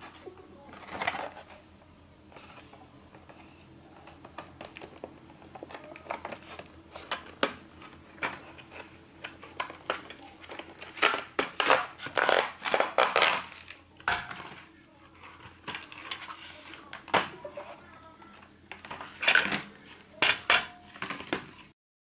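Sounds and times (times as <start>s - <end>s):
plastic packaging crackling: 4.0s - 21.7s.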